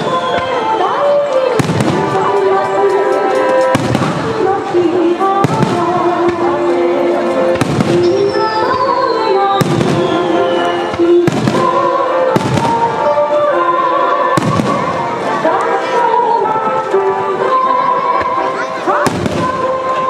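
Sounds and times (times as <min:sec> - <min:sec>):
music over loudspeakers: 0:00.0 - 0:20.0.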